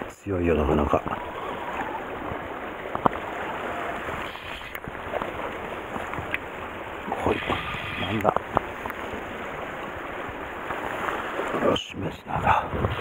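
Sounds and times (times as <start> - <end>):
sea water lapping on rocks: 0.0 - 13.0.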